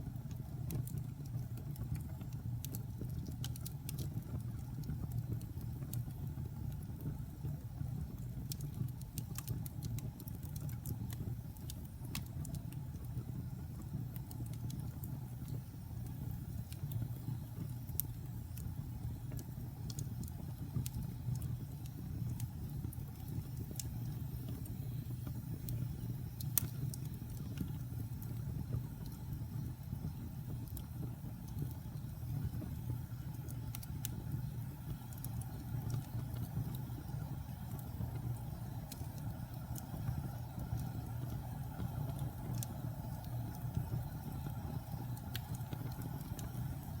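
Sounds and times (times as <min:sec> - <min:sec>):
wood fire burning in fireplace: 0:00.0 - 0:47.0.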